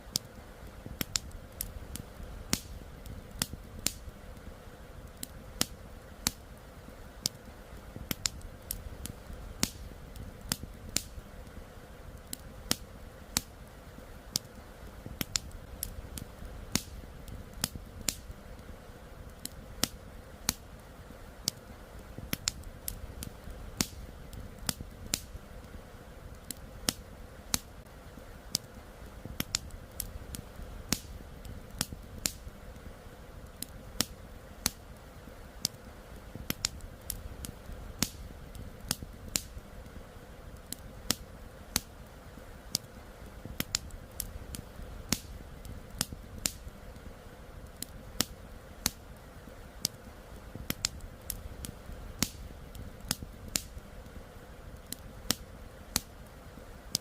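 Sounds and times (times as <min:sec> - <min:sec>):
wood campfire crackling: 0:00.0 - 0:57.0.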